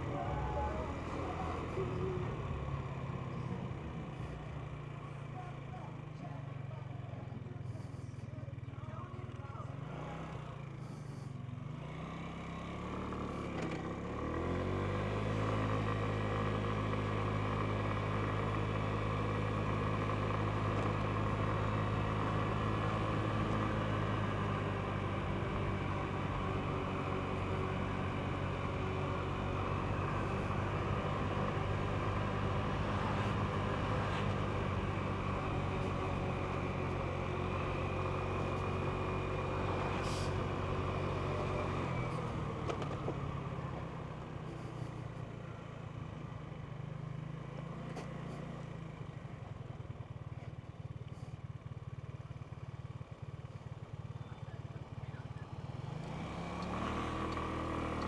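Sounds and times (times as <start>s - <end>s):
road and wind noise: 0.0s - 58.0s
scooter engine running: 0.0s - 58.0s.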